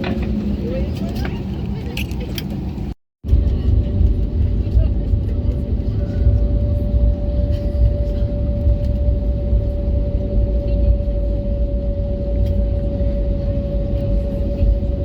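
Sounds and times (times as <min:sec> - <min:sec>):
aircraft engines and gear rumbling: 0:00.0 - 0:15.0
constant hum tone: 0:00.0 - 0:15.0.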